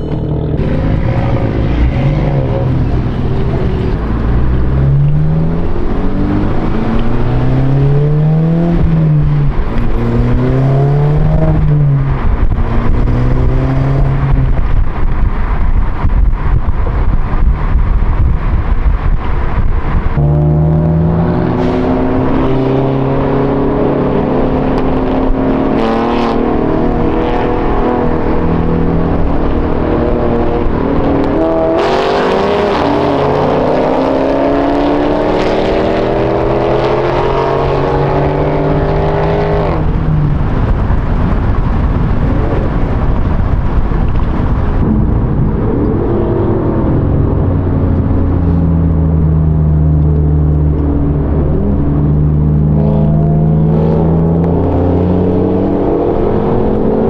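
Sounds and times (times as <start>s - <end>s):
car engine revving: 0.0s - 57.0s
rushing noise: 0.0s - 57.0s.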